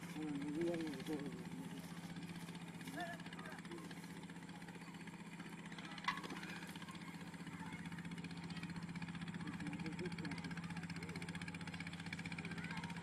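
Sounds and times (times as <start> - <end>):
faint voices: 0.0 - 13.0
small engine humming: 0.0 - 13.0.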